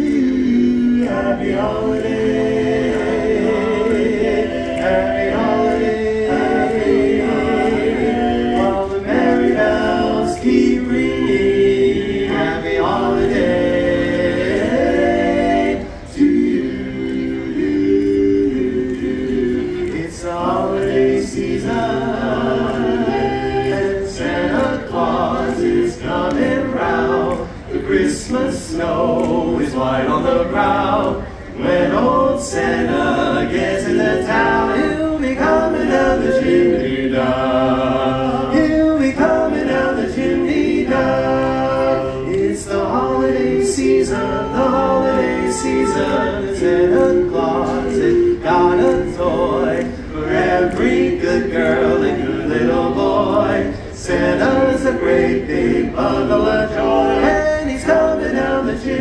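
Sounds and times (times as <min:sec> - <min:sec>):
male quartet singing a cappella: 0:00.0 - 0:59.0.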